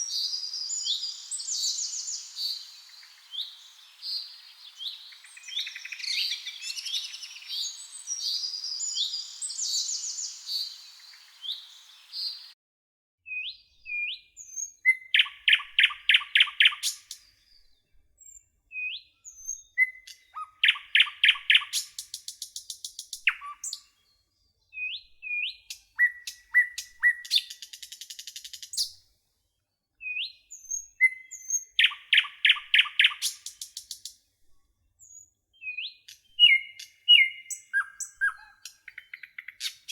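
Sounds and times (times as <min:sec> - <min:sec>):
bird song with fast trill: 0:00.0 - 0:12.6, 0:13.3 - 0:29.0, 0:30.0 - 0:34.2, 0:35.0 - 0:39.9
chorus of songbird chirps: 0:00.0 - 0:12.6, 0:13.3 - 0:39.9.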